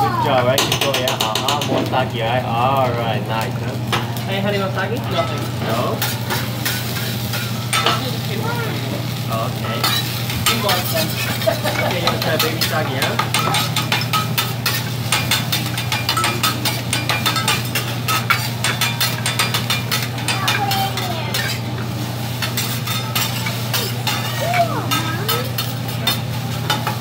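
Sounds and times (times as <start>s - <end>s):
food sizzling on griddle: 0.0s - 27.0s
metal spatula scraping griddle: 4.4s - 8.9s, 9.7s - 27.0s.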